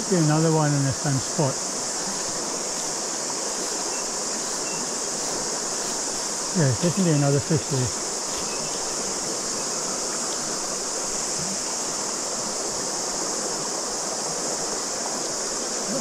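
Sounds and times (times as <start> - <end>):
cicadas chorus: 0.0 - 16.0
river water rushing over rocks: 0.0 - 16.0.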